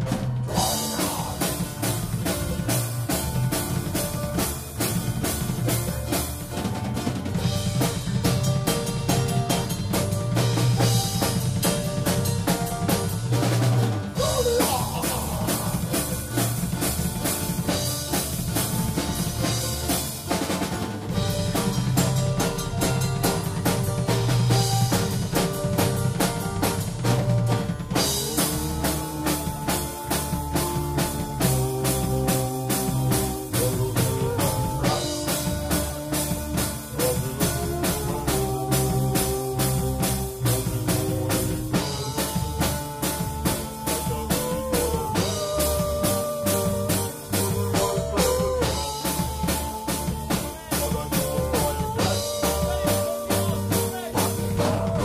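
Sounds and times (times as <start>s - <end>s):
drum kit beat: 0.0s - 55.0s.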